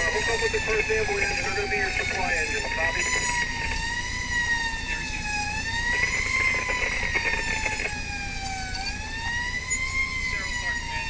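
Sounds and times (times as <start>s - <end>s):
engine and road noise: 0.0s - 11.0s
fire truck siren wailing: 0.0s - 11.0s.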